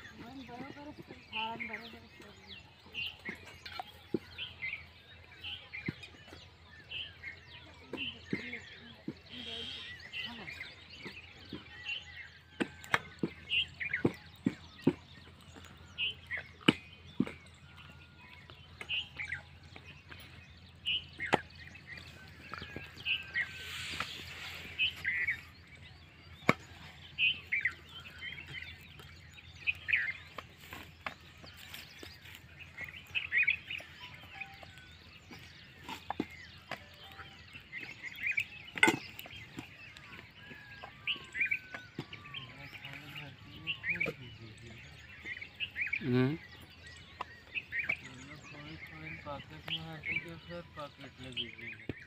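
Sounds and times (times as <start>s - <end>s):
bird chirps: 0.0s - 52.0s.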